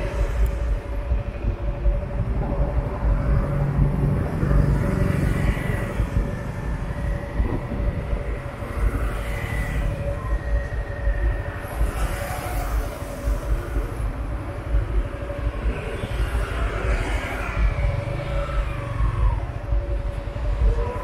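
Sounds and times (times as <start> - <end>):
road traffic passing: 0.0 - 21.0
steady low rumble: 0.0 - 21.0.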